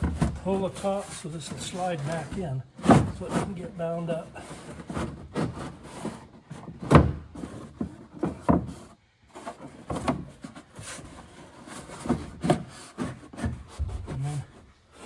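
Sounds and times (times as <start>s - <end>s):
cardboard panel scraping and bumping: 0.0s - 15.0s.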